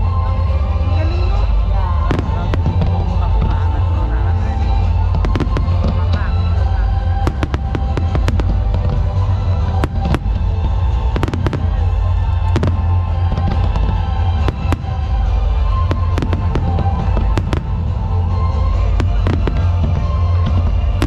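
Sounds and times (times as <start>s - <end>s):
low rumble: 0.0s - 21.0s
music playing: 0.0s - 21.0s
fireworks bangs and crackles: 0.1s - 21.0s.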